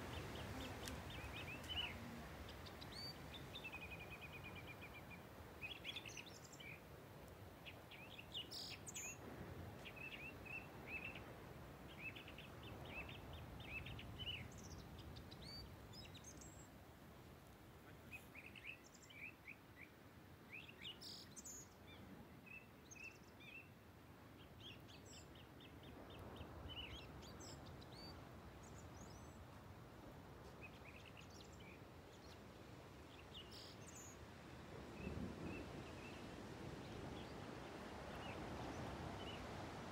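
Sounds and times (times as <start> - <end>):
small birds chirping: 0.0 - 16.8, 17.7 - 23.8, 24.4 - 39.6.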